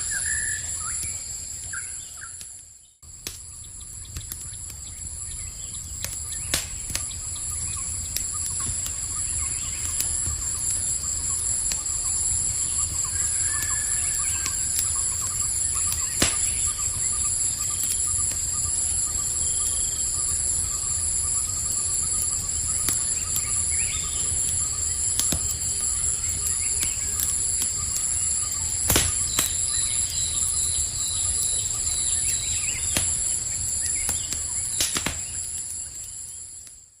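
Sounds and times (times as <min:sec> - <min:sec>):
campfire crackling and popping: 0:00.0 - 0:37.0
night insects droning: 0:00.0 - 0:37.0
short insect chirps: 0:00.0 - 0:37.0.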